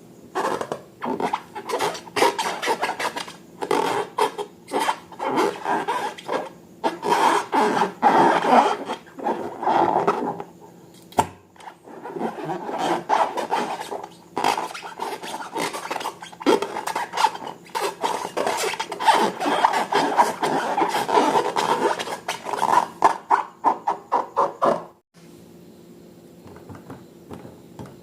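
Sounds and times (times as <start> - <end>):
rubbing or scraping sounds: 0.4 - 10.5, 11.6 - 25.0.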